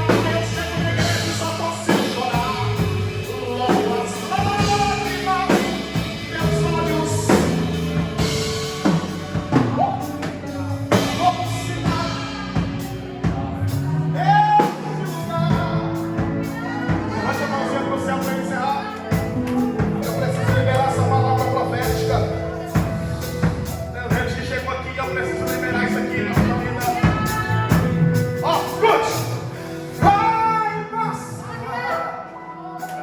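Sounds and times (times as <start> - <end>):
gospel band playing: 0.0 - 33.0.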